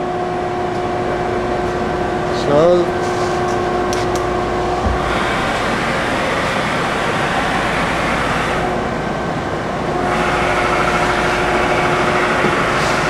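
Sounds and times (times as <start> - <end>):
machine running noise: 0.0 - 13.0
machine whine: 0.0 - 13.0.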